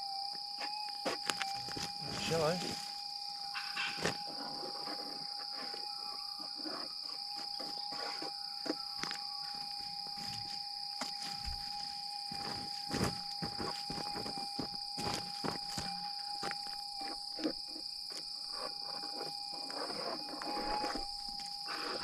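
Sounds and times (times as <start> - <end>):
insects chirring: 0.0 - 22.0
thin steady tone: 0.0 - 22.0.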